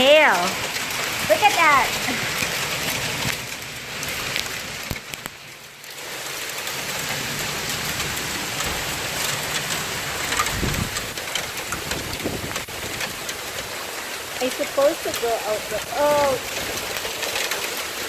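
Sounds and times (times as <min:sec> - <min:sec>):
hailstones pelting a car: 0:00.0 - 0:18.0.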